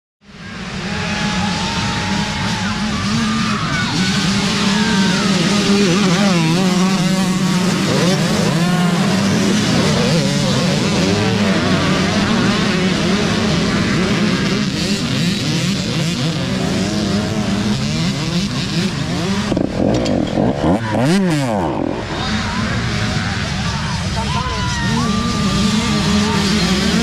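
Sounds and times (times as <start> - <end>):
dirt bikes revving: 0.2 - 27.0.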